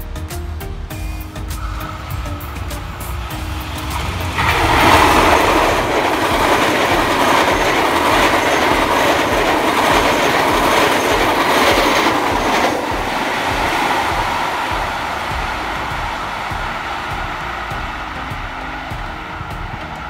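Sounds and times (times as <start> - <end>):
train wheels on rails: 1.5 - 20.0.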